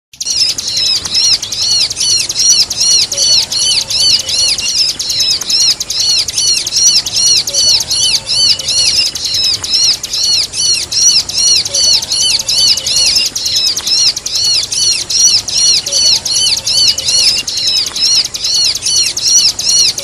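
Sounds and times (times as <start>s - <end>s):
bird chirping: 0.2s - 20.0s.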